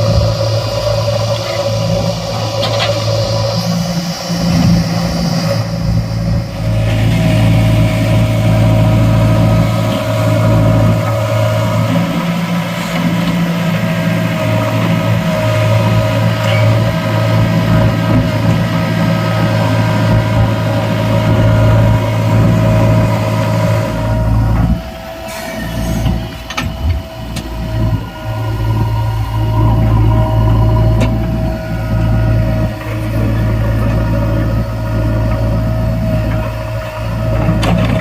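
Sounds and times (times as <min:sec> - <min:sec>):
heavy diesel engine running: 0:00.0 - 0:38.0
steady whine: 0:00.0 - 0:38.0.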